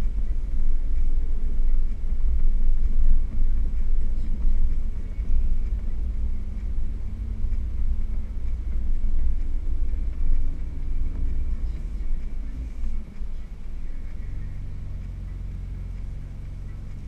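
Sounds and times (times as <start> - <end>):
off-road vehicle rumbling: 0.0 - 17.0.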